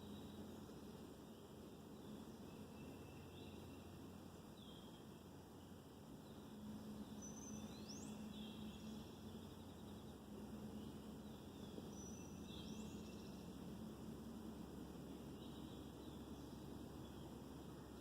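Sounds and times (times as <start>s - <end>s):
faint low hum: 0.0s - 18.0s
songbirds singing faintly: 0.0s - 18.0s.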